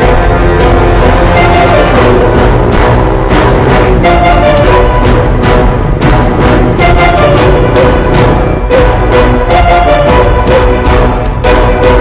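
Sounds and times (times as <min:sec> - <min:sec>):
soundtrack music with steady beat: 0:00.0 - 0:12.0.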